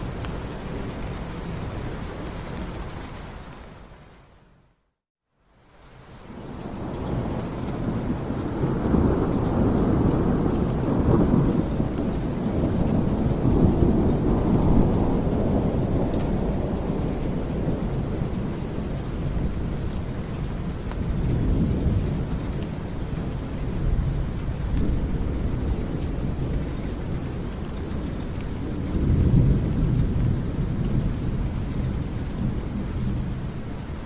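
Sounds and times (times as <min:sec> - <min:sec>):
steady rain: 0:00.0 - 0:34.0
rolling thunder: 0:06.3 - 0:33.7.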